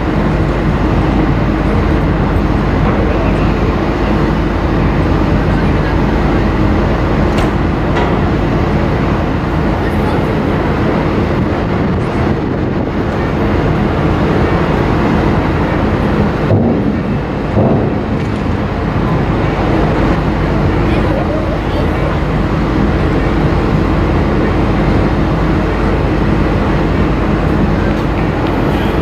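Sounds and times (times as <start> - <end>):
ship engines droning: 0.0 - 29.0.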